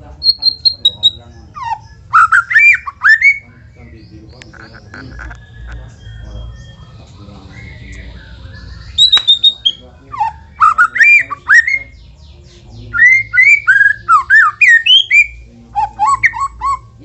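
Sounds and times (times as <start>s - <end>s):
bird singing whistled phrases: 0.2s - 12.0s, 12.9s - 17.0s.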